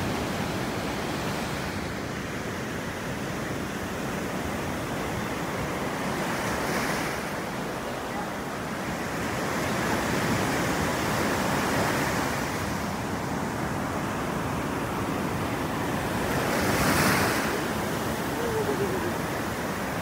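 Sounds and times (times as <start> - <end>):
ocean surf breaking on sand: 0.0 - 20.0.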